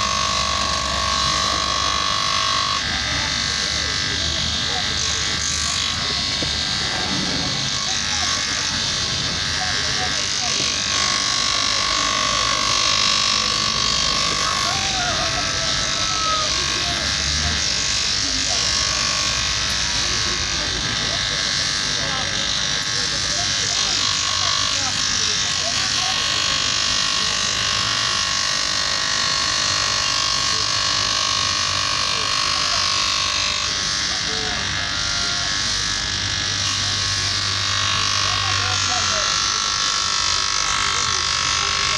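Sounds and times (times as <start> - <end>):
bench grinder grinding: 0.0 - 41.9.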